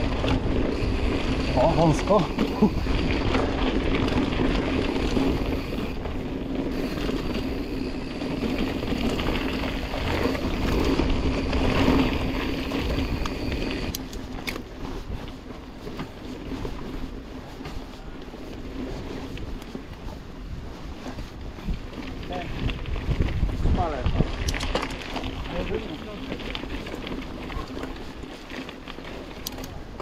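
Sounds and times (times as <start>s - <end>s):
bike rolling on dirt trail: 0.0s - 30.0s
wind buffeting microphone: 0.0s - 30.0s.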